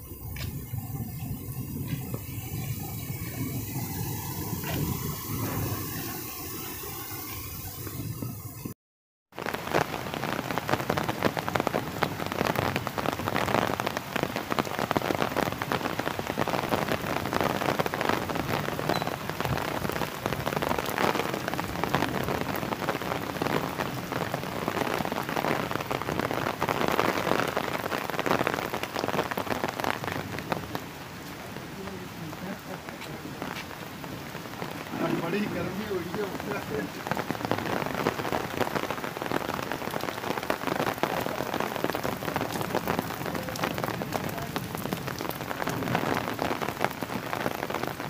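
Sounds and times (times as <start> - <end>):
rain drops pattering: 0.0 - 48.0.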